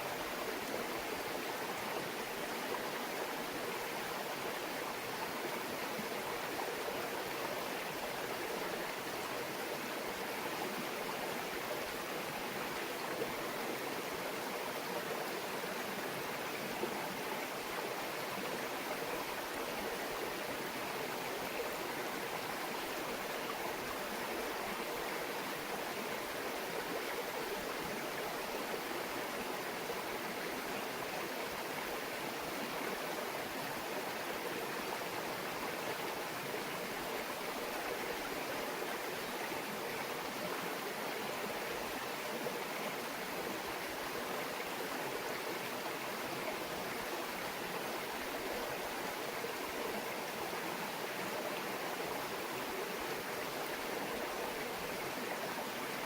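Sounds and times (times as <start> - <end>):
stream babbling over rocks: 0.1 - 56.0.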